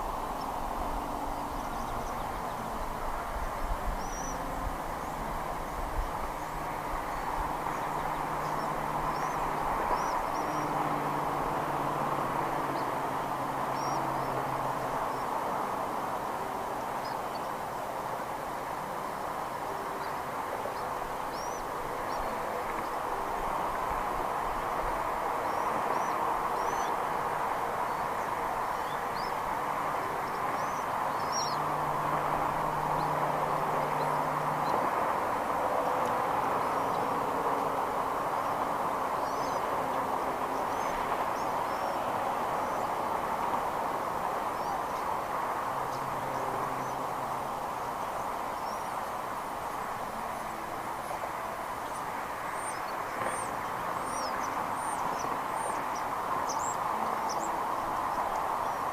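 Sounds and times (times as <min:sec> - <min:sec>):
outdoor background noise: 0:00.0 - 0:58.9.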